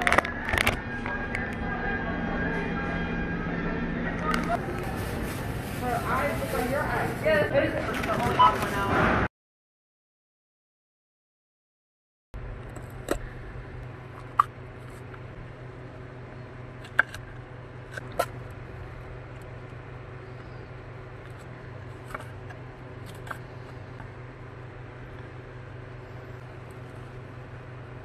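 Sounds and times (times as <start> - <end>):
steady low hum: 0.0 - 9.2, 12.4 - 28.0.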